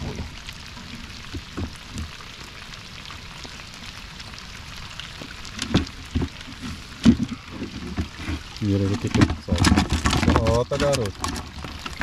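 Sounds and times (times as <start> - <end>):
rain pattering on river: 0.0 - 12.0.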